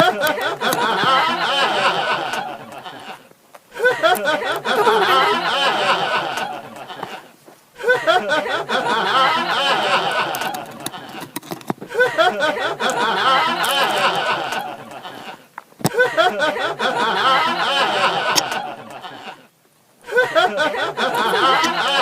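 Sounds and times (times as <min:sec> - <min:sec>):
person laughing: 0:00.0 - 0:22.0.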